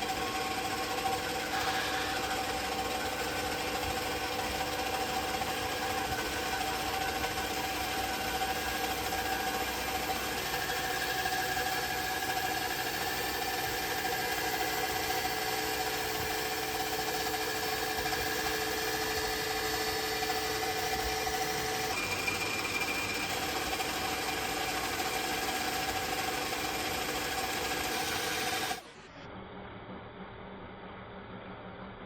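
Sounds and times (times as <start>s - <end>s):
workshop machine motor humming: 0.0s - 29.1s.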